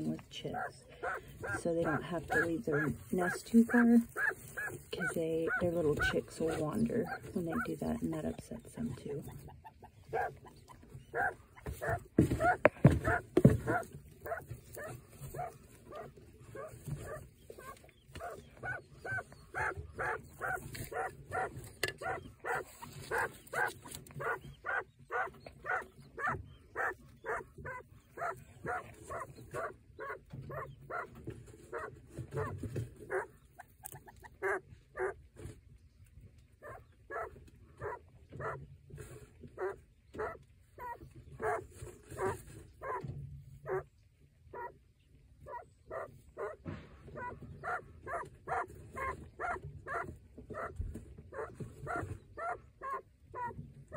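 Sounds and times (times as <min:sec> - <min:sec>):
quail grumbling and growling: 0:00.0 - 0:35.6, 0:36.4 - 0:53.9.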